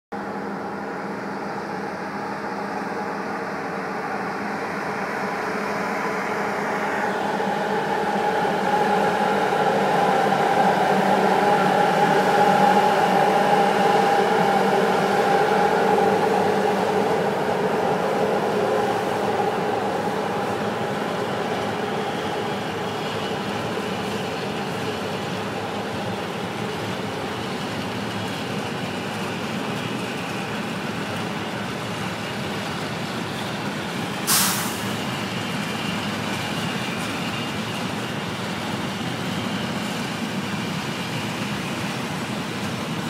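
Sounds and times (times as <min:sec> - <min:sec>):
electric locomotive hum: 0:00.2 - 0:43.0.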